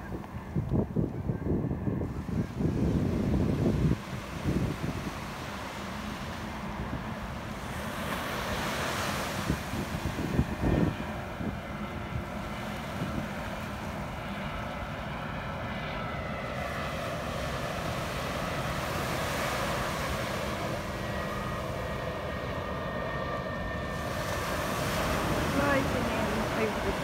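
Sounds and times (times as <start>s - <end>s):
faint engine whine: 0.0s - 27.0s
jet engine noise: 0.0s - 27.0s
wind: 0.0s - 27.0s
surf: 2.1s - 27.0s.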